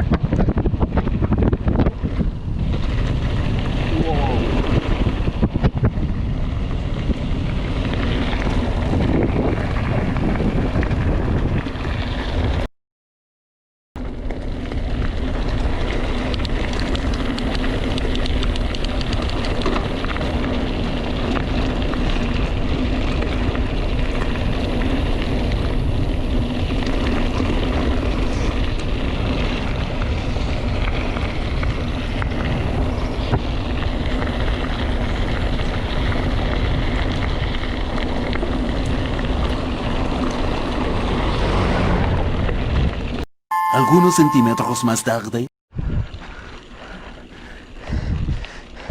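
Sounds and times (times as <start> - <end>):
bike rattling and clattering: 0.0 - 12.7, 14.0 - 43.2
wind buffeting microphone: 0.0 - 12.7, 14.8 - 43.2, 45.7 - 48.9.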